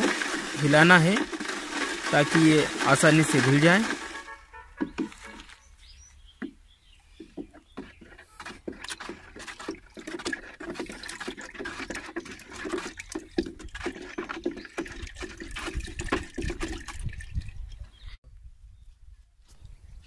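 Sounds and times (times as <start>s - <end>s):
liquid sloshing in a jar: 0.0s - 5.5s, 7.1s - 18.0s
stick knocking and scraping jar: 0.0s - 5.6s, 6.4s - 17.4s.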